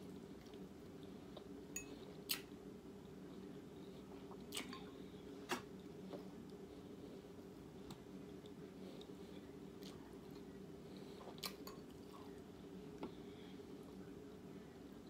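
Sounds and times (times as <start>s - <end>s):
person chewing food: 0.0s - 13.2s
steady low hum: 0.0s - 15.0s.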